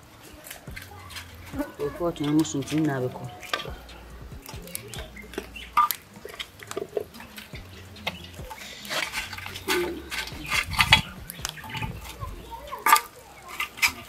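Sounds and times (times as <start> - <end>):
stick poking coals: 0.0 - 14.0.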